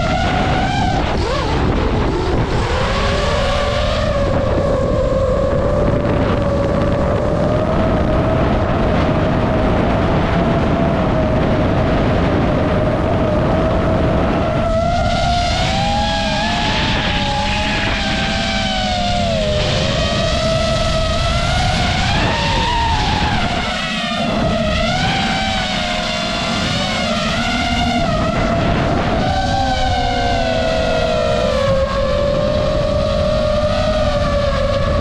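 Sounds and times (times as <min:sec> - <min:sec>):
drone motors and propellers whining: 0:00.0 - 0:35.0
wind rushing across microphone: 0:00.0 - 0:35.0.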